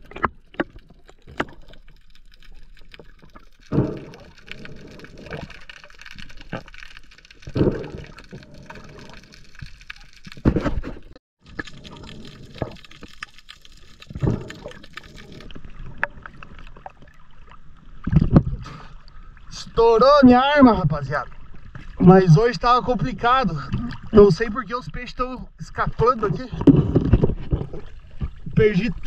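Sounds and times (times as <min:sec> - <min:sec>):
sea water sloshing and bubbling: 0:00.0 - 0:29.0.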